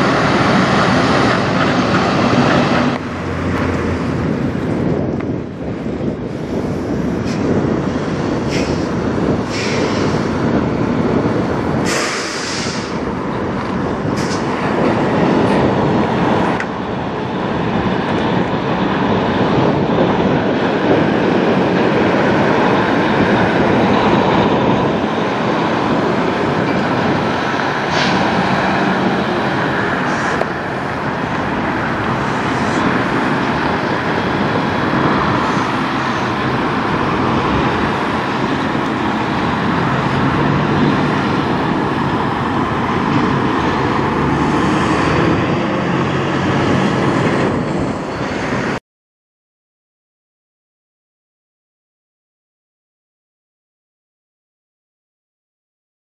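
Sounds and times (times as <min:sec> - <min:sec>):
diesel truck engine running: 0:00.0 - 0:48.8.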